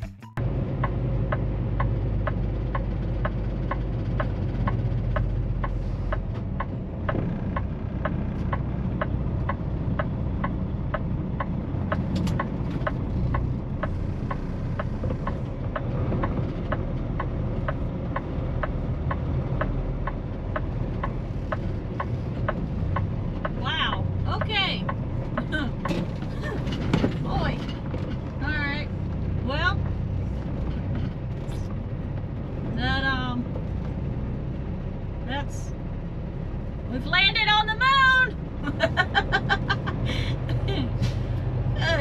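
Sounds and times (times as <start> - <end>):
diesel engine running: 0.0 - 42.0
turn signal ticking: 0.0 - 42.0.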